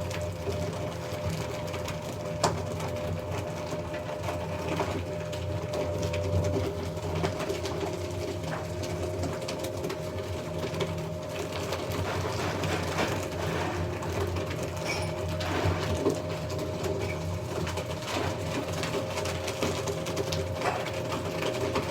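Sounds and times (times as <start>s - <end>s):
document shredder tearing paper: 0.5s - 21.9s.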